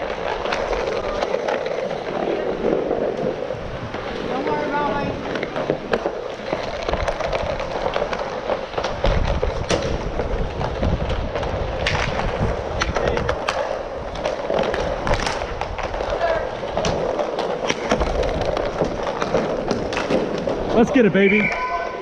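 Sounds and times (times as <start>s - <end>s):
sticks and puck clicking: 0.0s - 2.2s, 5.3s - 21.6s
skate wheels rolling on tiles: 0.0s - 22.0s.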